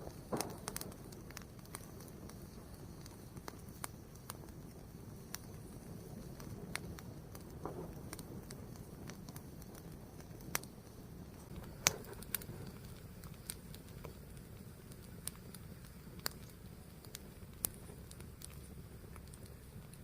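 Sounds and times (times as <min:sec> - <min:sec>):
fire burning with crackling pops: 0:00.0 - 0:20.0.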